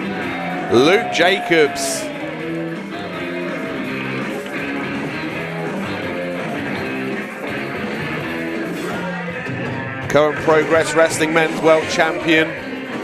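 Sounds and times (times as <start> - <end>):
guitar-led rock music: 0.0 - 13.0.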